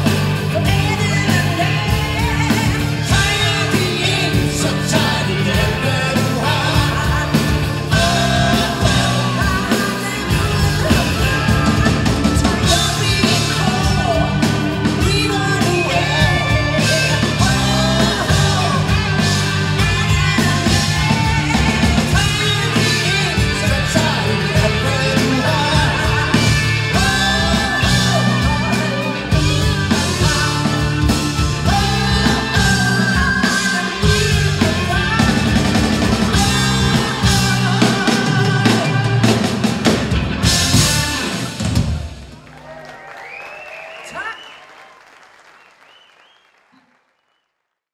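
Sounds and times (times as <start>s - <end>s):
rock band playing: 0.0s - 44.3s
woman singing: 0.5s - 39.3s.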